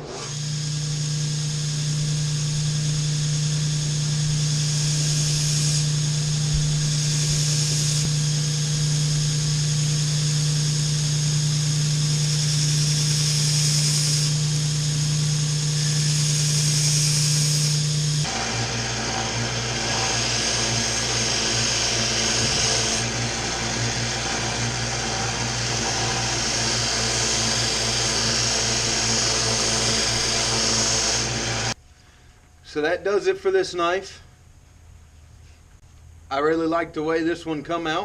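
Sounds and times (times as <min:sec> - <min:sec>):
electric buffing wheel on steel: 0:00.0 - 0:31.8.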